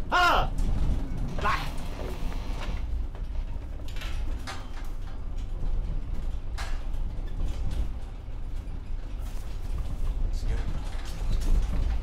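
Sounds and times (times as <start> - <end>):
truck rattling and creaking: 0.0 - 12.0.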